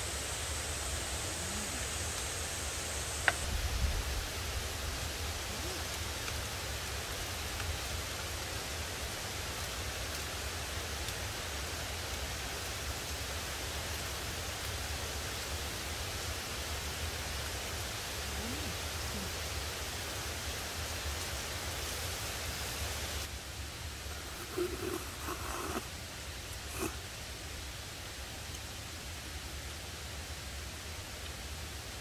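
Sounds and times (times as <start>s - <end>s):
rain falling on a tarp: 0.0s - 32.0s.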